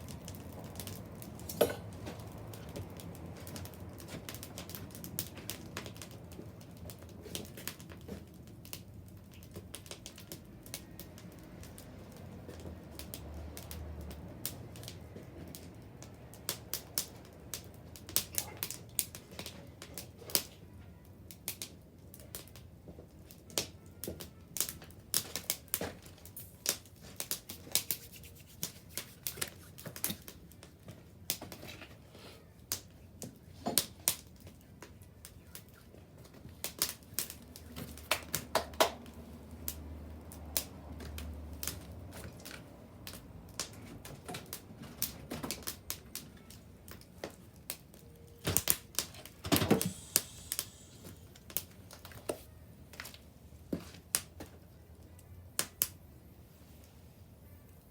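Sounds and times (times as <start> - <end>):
bonfire crackling and popping: 0.0 - 57.0.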